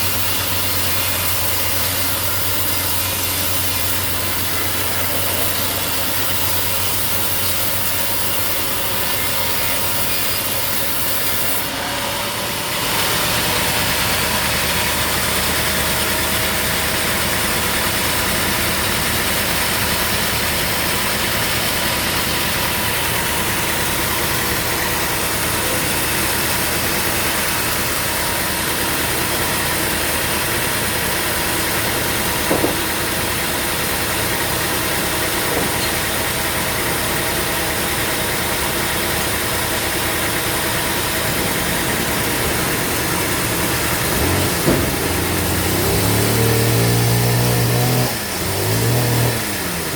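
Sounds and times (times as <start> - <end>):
sawmill machinery droning: 0.0 - 49.9.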